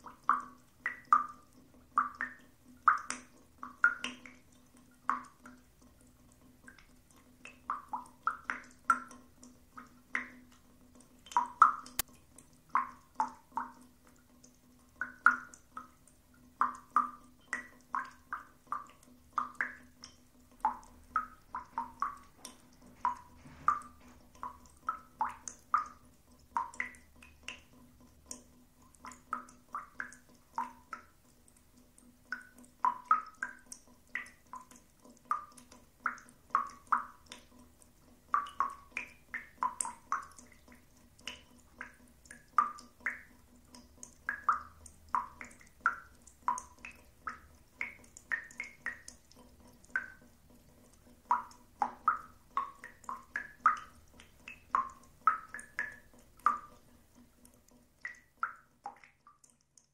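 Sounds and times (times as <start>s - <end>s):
faint steady hum: 0.0s - 59.9s
water drops plinking in bathtub: 0.0s - 59.9s.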